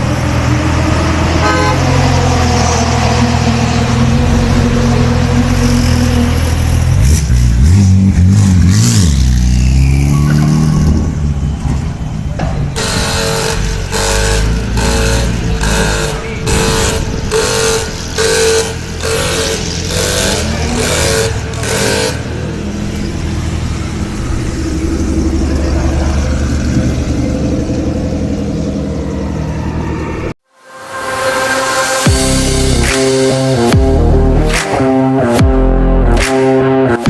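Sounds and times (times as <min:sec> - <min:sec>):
engine revving in blips: 0:00.0 - 0:30.4, 0:32.0 - 0:37.0
low engine drone: 0:00.0 - 0:37.0.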